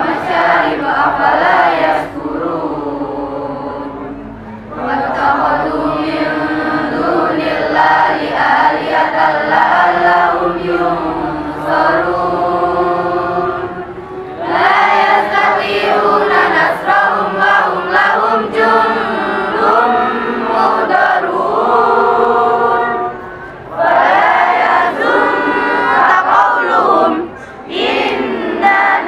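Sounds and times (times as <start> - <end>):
group singing in unison: 0.0 - 29.0.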